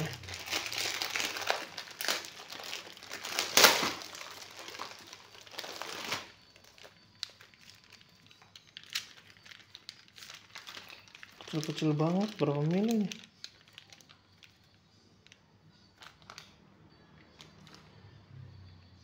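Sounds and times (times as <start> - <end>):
plastic packaging crinkling: 0.0 - 14.8, 16.0 - 16.6.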